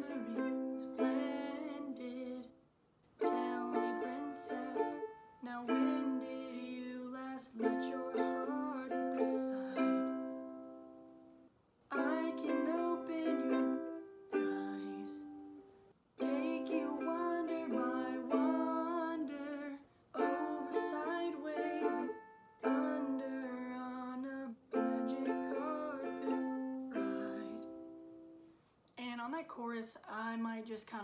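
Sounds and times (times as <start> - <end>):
ukulele chords strummed: 0.0 - 2.5, 3.2 - 11.2, 12.0 - 15.6, 16.2 - 28.4.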